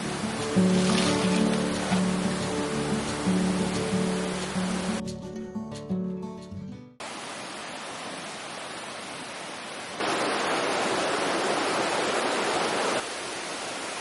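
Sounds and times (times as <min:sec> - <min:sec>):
steady rain falling: 0:00.0 - 0:05.0, 0:07.0 - 0:14.0.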